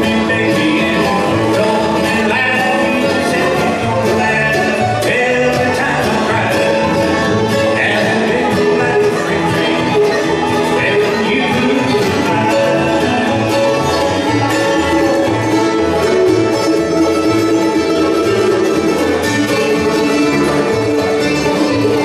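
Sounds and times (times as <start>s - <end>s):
bluegrass band playing: 0.0s - 22.0s.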